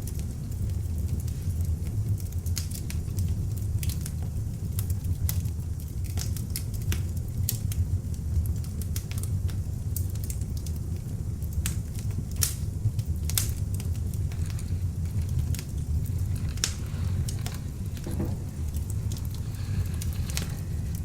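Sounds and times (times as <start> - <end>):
low rumble of flames: 0.0 - 21.0
wood crackling and popping: 0.0 - 21.0.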